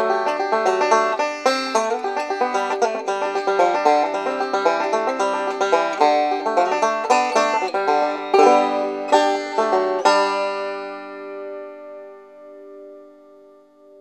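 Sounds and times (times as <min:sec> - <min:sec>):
banjo fingerpicked: 0:00.0 - 0:14.0.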